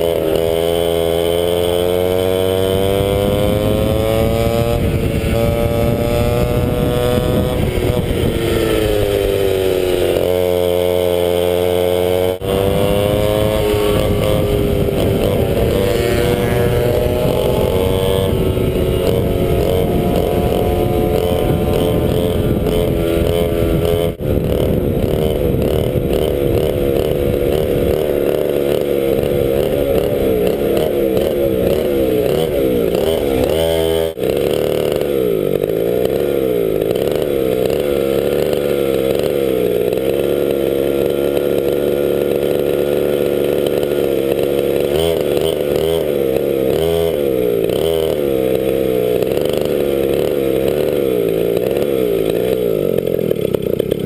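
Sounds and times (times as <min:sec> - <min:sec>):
kart engine running: 0:00.0 - 0:54.0.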